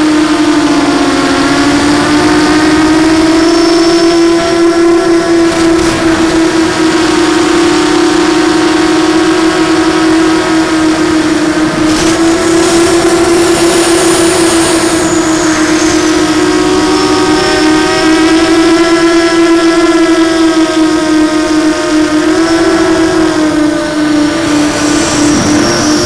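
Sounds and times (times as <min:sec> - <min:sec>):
quadcopter motors whining: 0:00.0 - 0:26.0.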